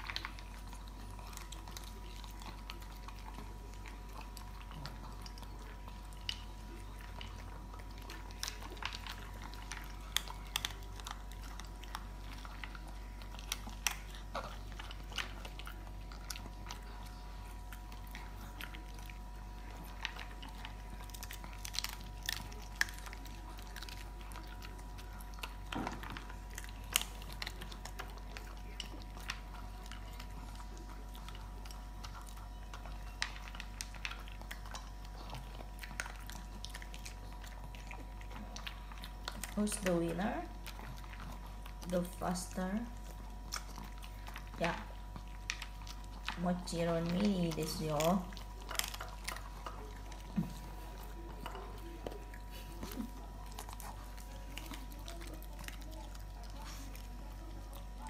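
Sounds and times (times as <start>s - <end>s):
dogs chewing dry kibble: 0.0s - 58.0s.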